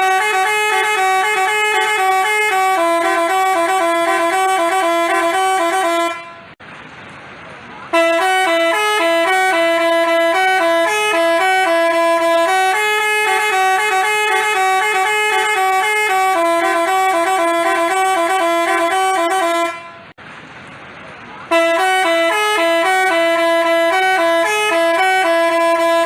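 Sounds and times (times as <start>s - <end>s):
musical bus horn melody: 0.0s - 6.6s, 7.9s - 20.2s, 21.5s - 26.0s.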